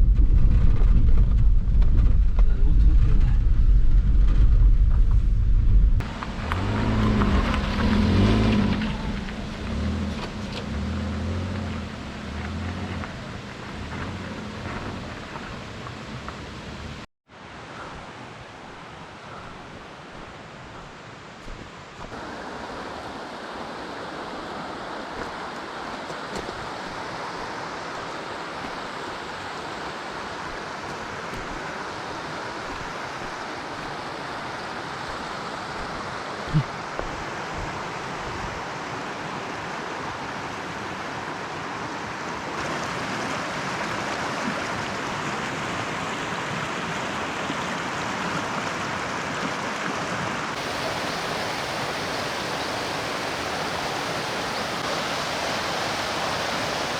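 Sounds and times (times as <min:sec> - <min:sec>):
stream rushing over rocks: 0:06.0 - 0:56.9.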